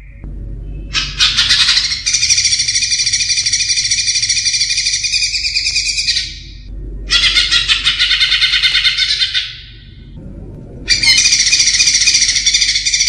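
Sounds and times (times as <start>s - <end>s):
bird trilling song: 0.0s - 10.2s, 10.9s - 13.0s.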